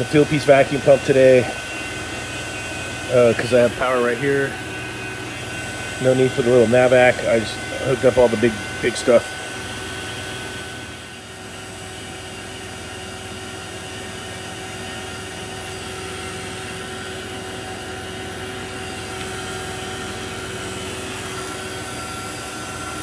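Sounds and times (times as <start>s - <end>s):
vacuum pump running: 0.0s - 23.0s.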